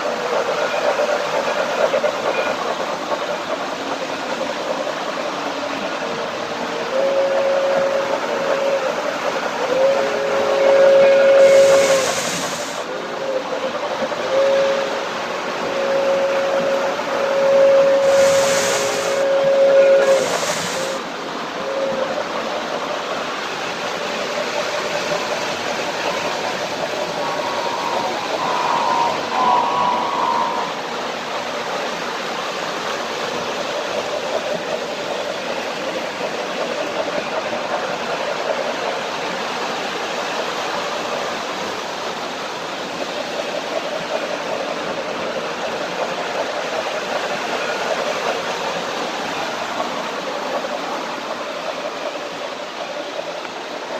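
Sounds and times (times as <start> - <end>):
model trains rolling on track: 0.0 - 53.9.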